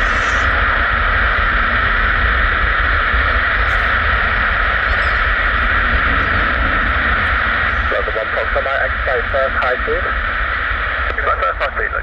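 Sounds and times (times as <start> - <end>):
low rumble: 0.0 - 12.0
radio static hiss: 0.0 - 12.0.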